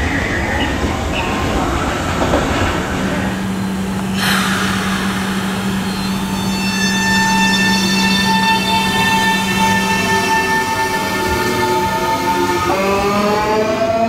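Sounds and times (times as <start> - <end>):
train inverter rising tones: 0.0 - 14.0.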